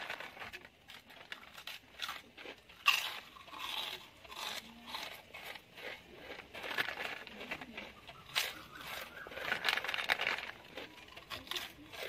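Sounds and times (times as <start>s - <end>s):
chips being crunched: 0.0s - 12.0s
foil packet crinkling: 0.0s - 12.0s.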